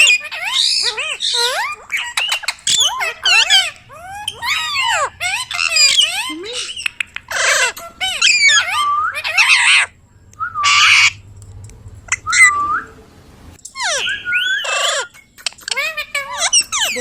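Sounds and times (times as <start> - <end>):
parrot squawking: 0.0 - 11.2, 12.1 - 12.8, 13.7 - 17.0.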